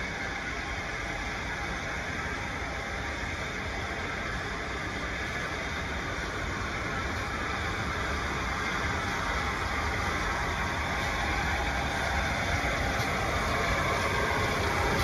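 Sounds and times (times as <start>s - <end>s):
steam locomotive approaching: 0.0s - 15.0s.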